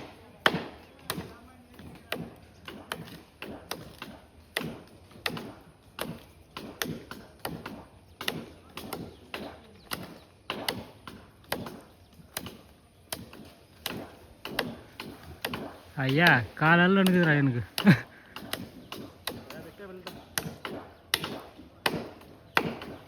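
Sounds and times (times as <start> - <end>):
blade chopping wood: 0.0 - 23.0.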